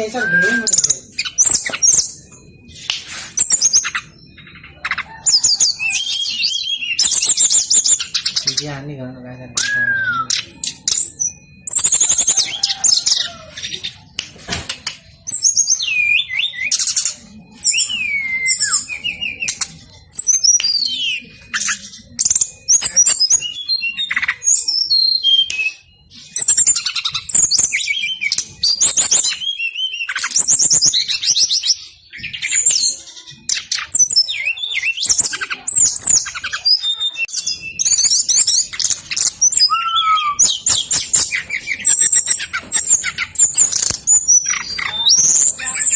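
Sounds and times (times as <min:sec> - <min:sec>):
bird singing whistles and trills: 0:00.0 - 0:14.2, 0:14.9 - 0:45.9.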